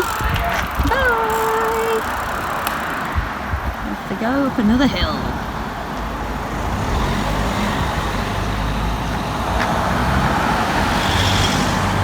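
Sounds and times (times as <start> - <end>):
road noise: 0.0 - 12.0
van engine hum: 0.0 - 12.0.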